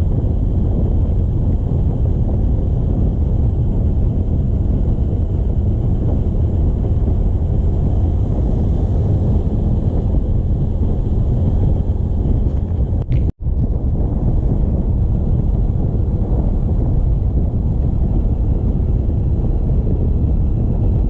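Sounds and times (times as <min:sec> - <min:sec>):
motorcycle engine and road rumble: 0:00.0 - 0:21.0
wind buffeting microphone: 0:00.0 - 0:21.0.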